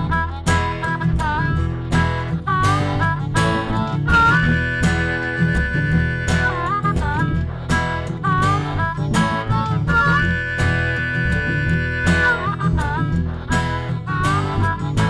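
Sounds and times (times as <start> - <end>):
acoustic blues band: 0.0 - 15.0
bending high lead notes: 0.0 - 15.0
strummed acoustic guitar: 0.0 - 15.0.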